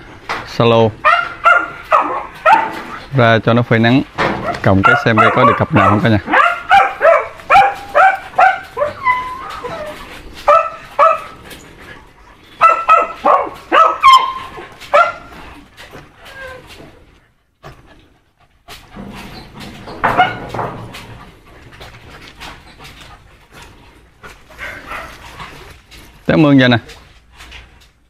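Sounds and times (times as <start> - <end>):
dogs yapping: 1.0 - 3.1, 4.3 - 18.1, 18.7 - 26.1.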